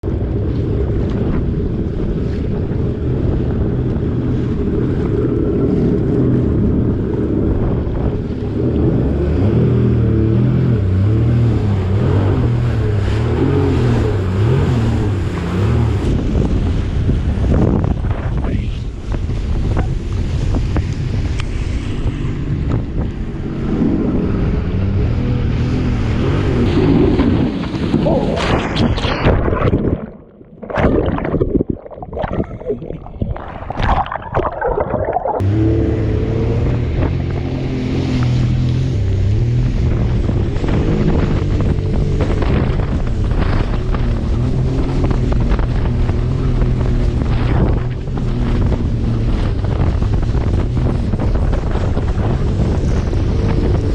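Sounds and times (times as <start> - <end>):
jet ski engine running: 0.0 - 28.9, 35.4 - 53.9
water rushing and splashing: 0.0 - 53.9
wind buffeting microphone: 0.0 - 53.9.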